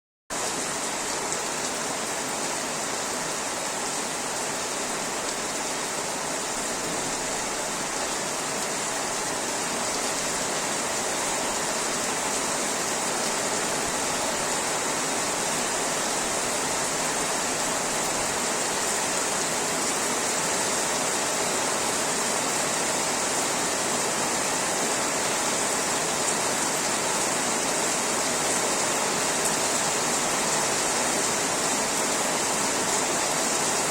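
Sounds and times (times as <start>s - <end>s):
rain falling: 0.3s - 33.9s.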